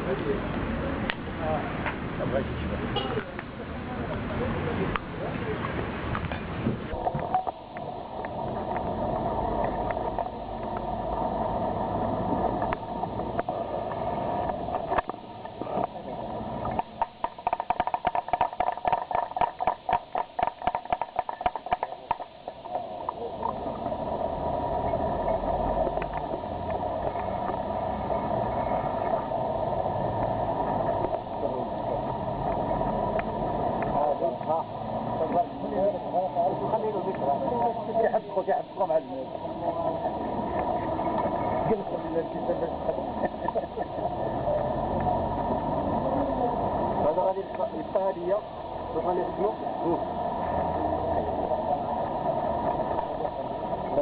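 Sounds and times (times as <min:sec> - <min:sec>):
crowd voices: 0:00.0 - 0:54.0.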